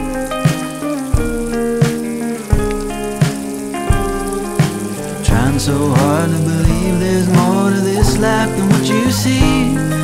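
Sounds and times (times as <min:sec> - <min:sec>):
falling rain hiss: 0:00.0 - 0:10.0
music with sustained chords: 0:00.0 - 0:10.0
soft beat: 0:00.0 - 0:10.0.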